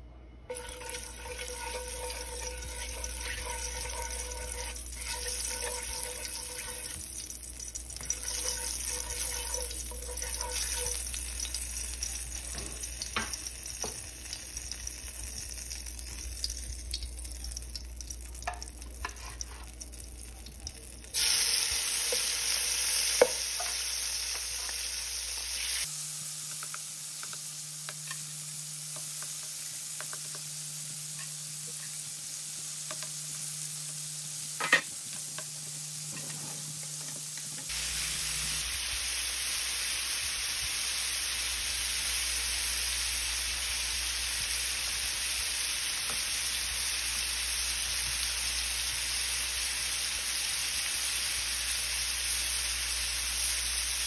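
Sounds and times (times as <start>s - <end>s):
oil sizzling in a frying pan: 0.5s - 54.0s
shrimp frying in oil: 0.5s - 54.0s.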